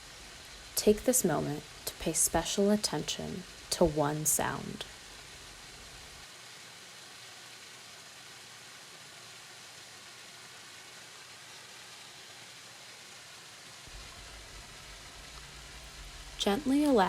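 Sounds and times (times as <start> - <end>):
waterfall splashing into pond: 0.0 - 17.0.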